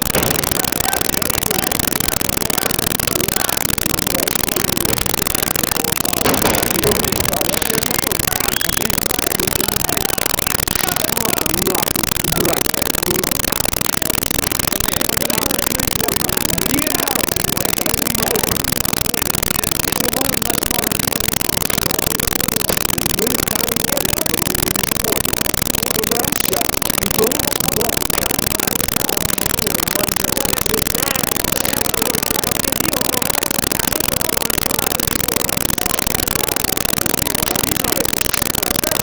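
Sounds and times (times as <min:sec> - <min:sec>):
crowd voices: 0:00.0 - 0:39.0
loud distorted hiss: 0:00.0 - 0:39.0.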